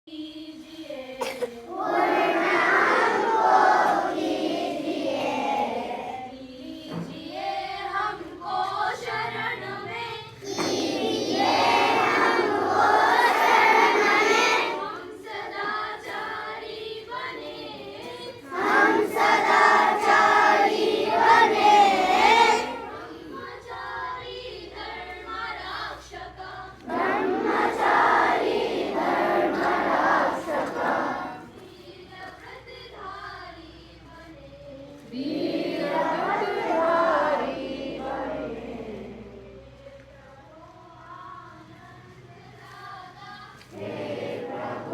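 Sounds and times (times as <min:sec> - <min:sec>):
children singing in unison: 0:00.1 - 0:33.6, 0:34.9 - 0:39.9, 0:42.6 - 0:44.9.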